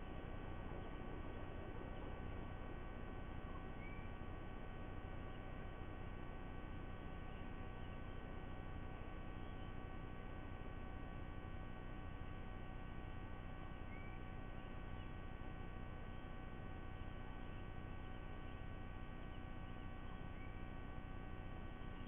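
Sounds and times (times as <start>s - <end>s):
electrical hum and buzz: 0.0s - 22.0s.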